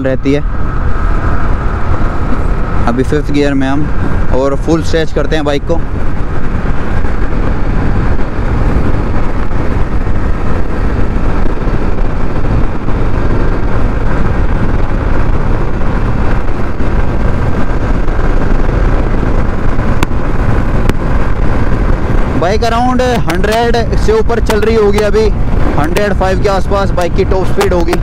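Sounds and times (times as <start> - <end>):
motorcycle engine at full throttle: 0.0 - 28.0
wind rushing: 0.0 - 28.0.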